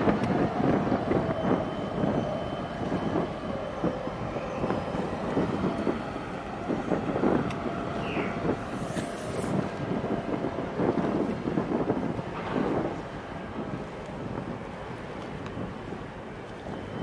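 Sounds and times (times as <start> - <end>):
low rumble of boat engines: 0.0 - 17.0
wind buffeting microphone: 0.0 - 17.0.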